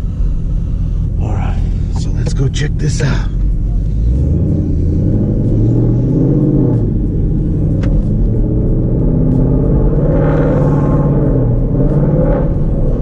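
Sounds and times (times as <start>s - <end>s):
car engine driving off: 0.0s - 13.0s.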